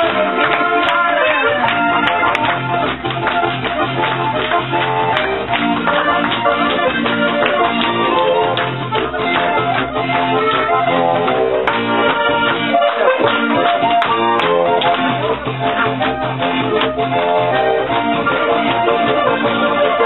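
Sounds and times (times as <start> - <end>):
folk band playing: 0.0 - 20.0
guitar: 0.0 - 20.0.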